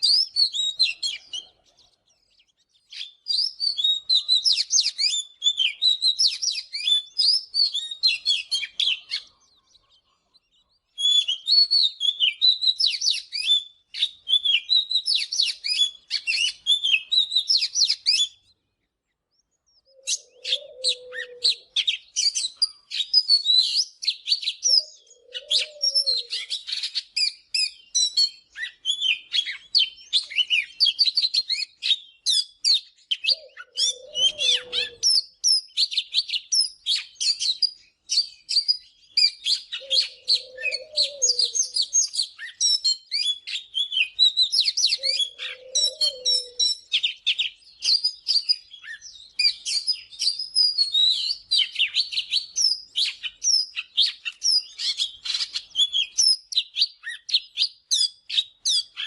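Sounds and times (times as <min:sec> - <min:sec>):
bird singing high whistles: 0:00.0 - 0:01.5, 0:02.8 - 0:09.4, 0:11.0 - 0:18.5, 0:19.8 - 0:59.0.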